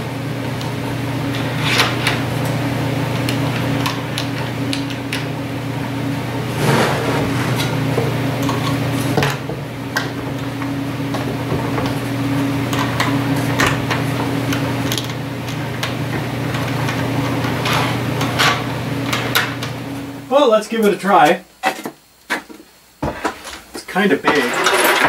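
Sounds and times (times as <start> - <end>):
steady low hum: 0.0 - 24.5.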